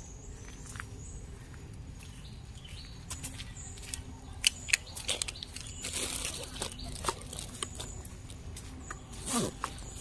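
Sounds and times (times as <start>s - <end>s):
footsteps on gravel: 0.4s - 4.1s, 4.8s - 10.0s.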